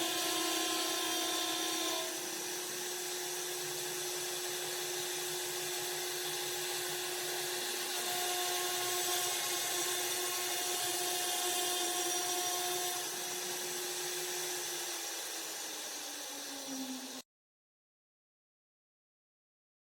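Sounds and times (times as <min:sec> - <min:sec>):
hissing wood cutting: 0:00.0 - 0:17.2.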